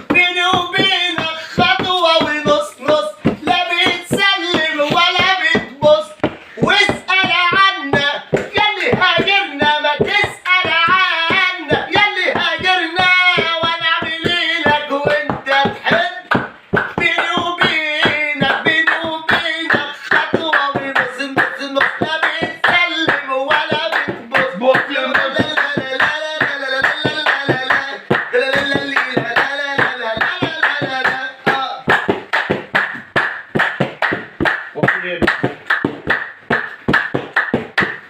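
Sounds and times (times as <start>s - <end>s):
man singing: 0.0s - 33.0s
rhythmic hand clapping: 0.0s - 38.0s.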